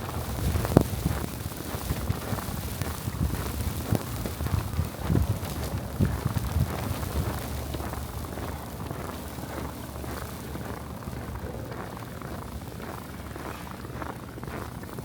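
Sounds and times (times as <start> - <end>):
boots crunching through snow: 0.0 - 15.0
low rumble of wind: 0.0 - 15.0.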